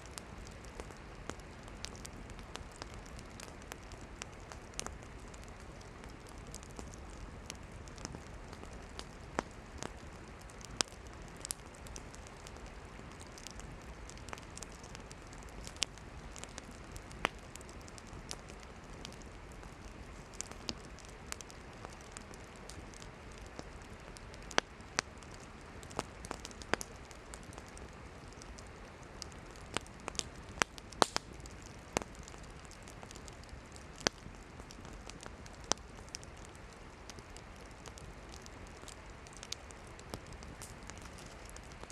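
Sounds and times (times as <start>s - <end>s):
firewood crackling and popping: 0.0s - 41.9s
hissing campfire flames: 0.0s - 41.9s.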